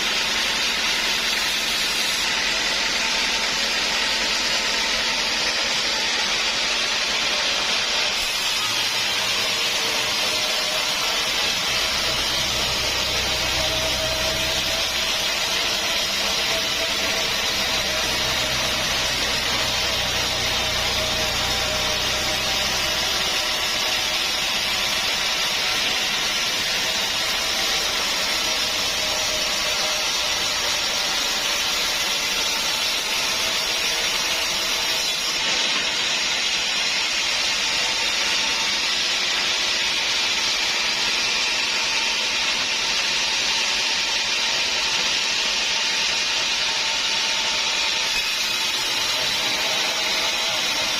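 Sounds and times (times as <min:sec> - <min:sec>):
saw cutting wood: 0:00.0 - 0:50.9.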